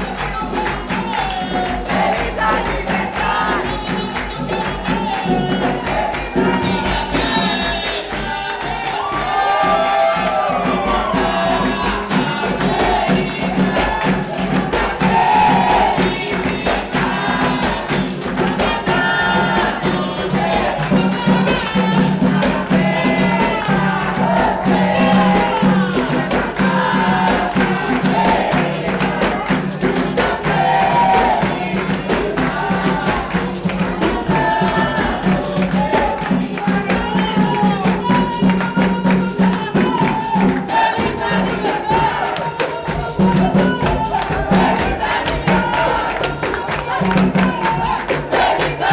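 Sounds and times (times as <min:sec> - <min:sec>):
tambourine and percussion rhythm: 0:00.0 - 0:48.9
voices singing together: 0:00.0 - 0:48.9.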